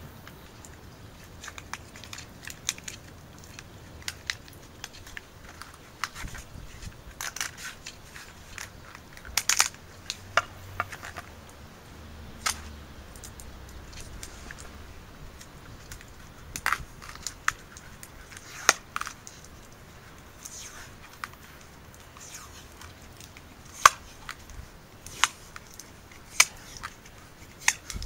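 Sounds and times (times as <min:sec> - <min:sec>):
clicks and crackles of hand wiring: 0:00.2 - 0:11.7, 0:12.3 - 0:28.0.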